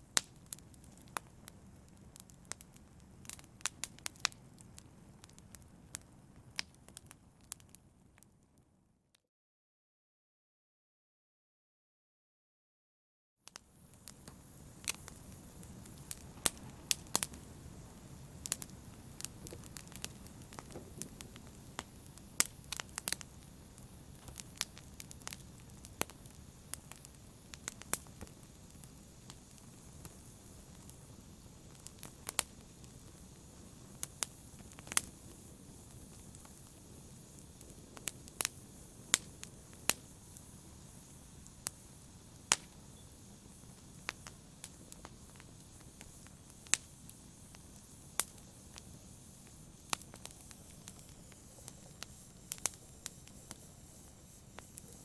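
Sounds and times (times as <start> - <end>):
low rumble of flames: 0.0 - 8.2, 13.6 - 55.0
wood fire crackling and popping: 0.0 - 8.6, 13.5 - 55.0.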